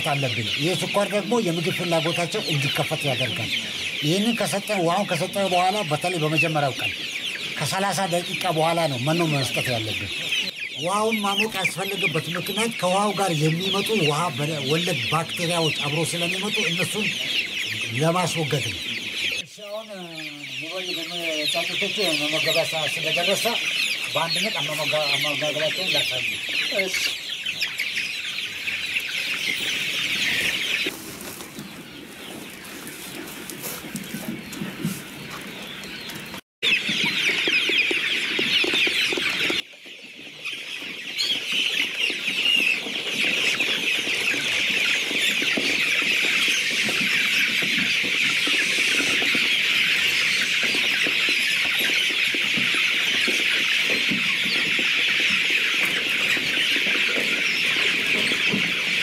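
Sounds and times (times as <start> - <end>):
chicks peeping and chirping: 0.0 - 59.0.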